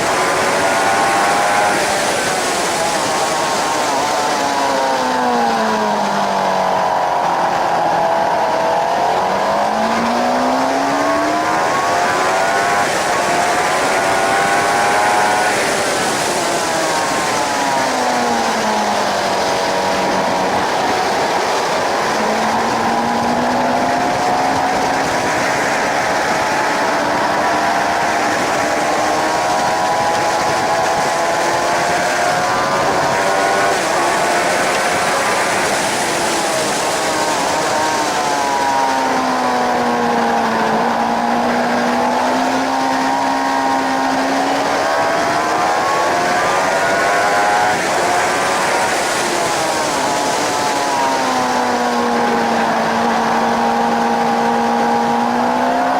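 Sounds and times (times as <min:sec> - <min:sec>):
motorcycle engine running hard: 0:00.0 - 0:55.9
wind rushing: 0:00.0 - 0:55.9.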